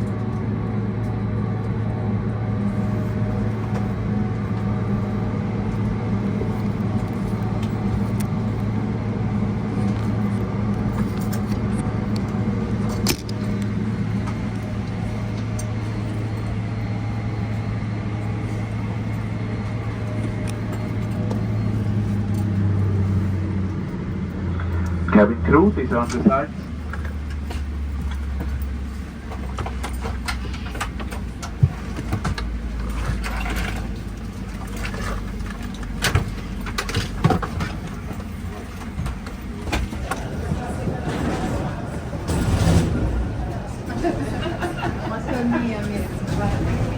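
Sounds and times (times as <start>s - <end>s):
airplane cabin hum: 0.0s - 46.9s.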